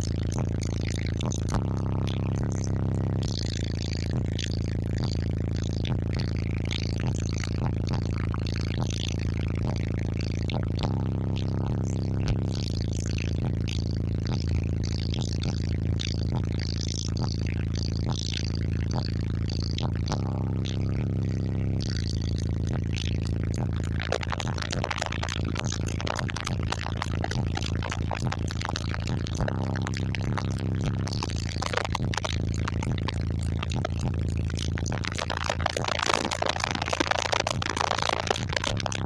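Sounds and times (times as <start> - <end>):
bass-heavy music through subwoofers: 0.0 - 39.0.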